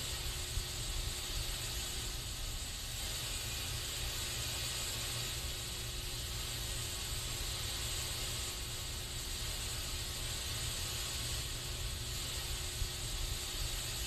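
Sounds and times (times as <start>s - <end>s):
aerosol spray hiss: 0.0s - 14.0s.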